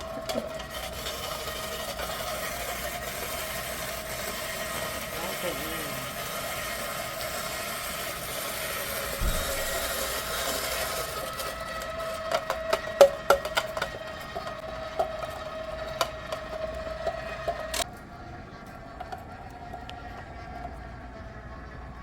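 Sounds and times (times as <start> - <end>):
cheese grating rasp: 0.0 - 17.8
mixer motor hum: 0.0 - 22.0.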